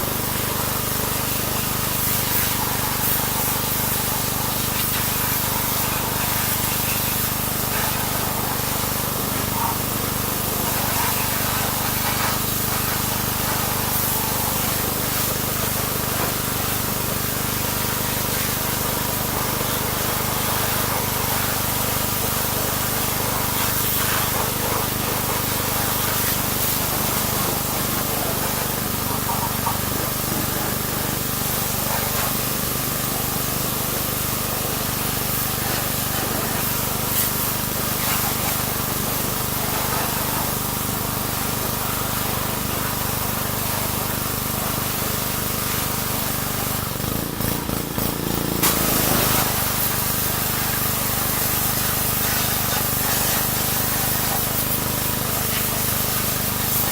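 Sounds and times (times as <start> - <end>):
pressure washer spray hiss: 0.0 - 56.9
pump motor hum: 0.0 - 56.9.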